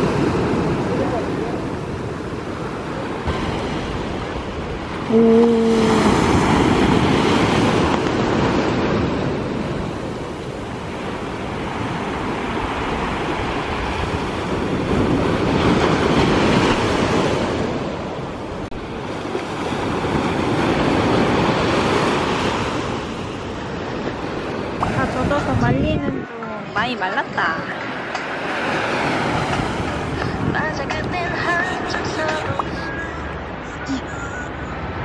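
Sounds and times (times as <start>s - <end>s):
waves breaking on beach: 0.0s - 35.0s.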